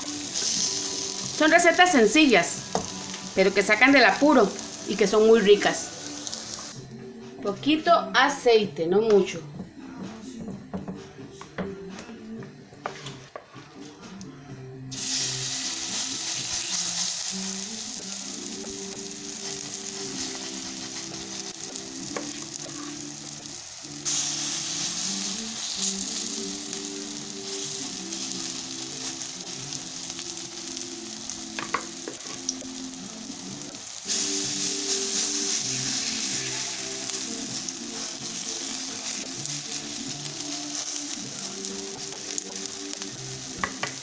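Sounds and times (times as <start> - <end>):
batter sizzling in oil: 0.0 - 6.8, 14.9 - 44.0.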